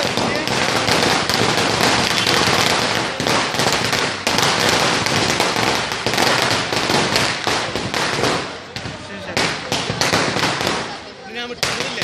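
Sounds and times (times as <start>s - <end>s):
firecrackers cracking and banging: 0.0s - 12.0s.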